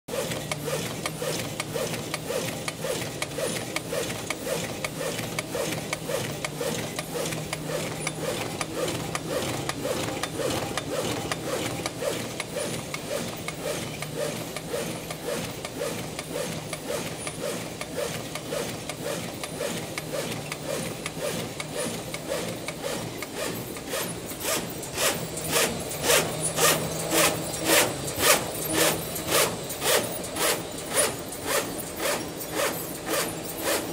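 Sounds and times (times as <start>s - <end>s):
die cutting machine strokes: 0.1s - 33.9s
machine hum: 0.1s - 33.9s.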